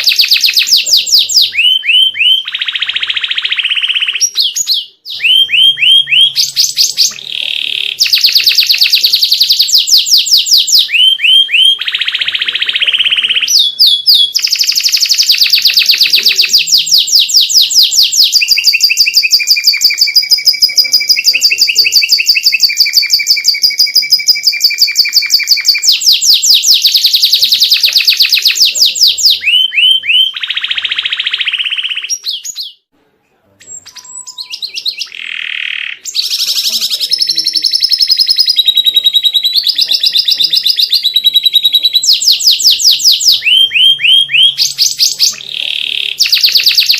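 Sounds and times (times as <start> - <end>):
canary singing trills: 0.0 - 32.9, 33.5 - 46.9.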